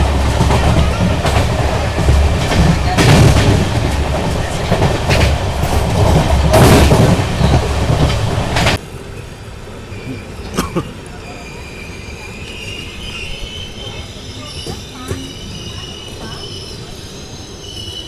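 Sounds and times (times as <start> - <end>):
rail joints clacking: 0.0 - 18.0
train wheels rumbling on rails: 0.0 - 18.0.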